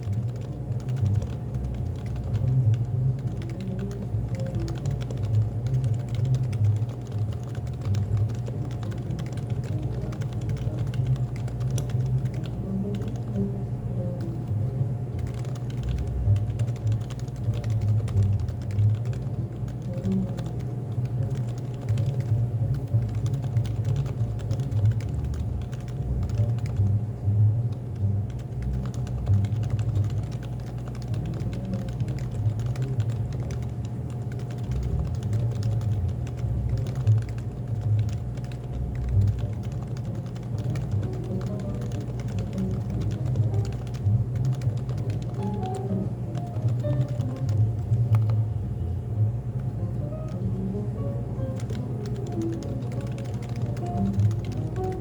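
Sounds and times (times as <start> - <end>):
fast keyboard typing: 0.0 - 48.5, 49.6 - 55.0
faint music: 0.0 - 55.0
low background hum: 0.0 - 55.0.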